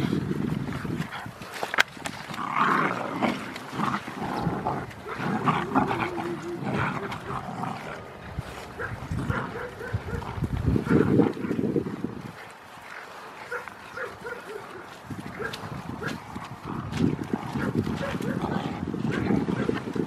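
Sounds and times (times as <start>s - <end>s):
puppies growling in play: 0.0s - 20.0s.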